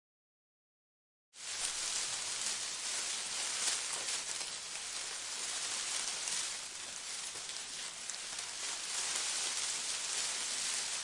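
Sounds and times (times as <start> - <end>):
leaves rustling: 1.4 - 11.0.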